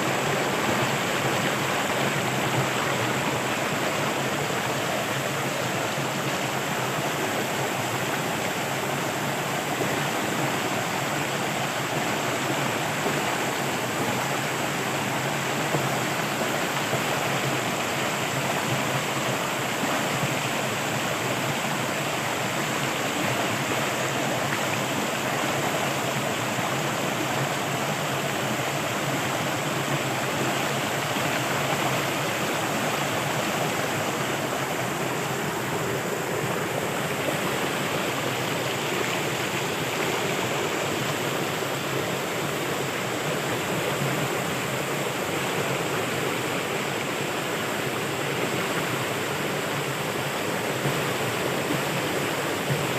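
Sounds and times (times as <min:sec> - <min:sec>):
flowing water rushing: 0:00.0 - 0:52.9.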